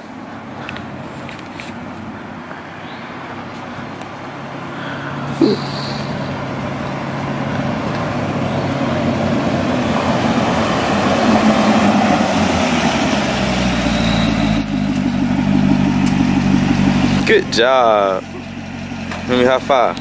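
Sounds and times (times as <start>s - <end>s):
car engine low hum: 0.0s - 20.0s.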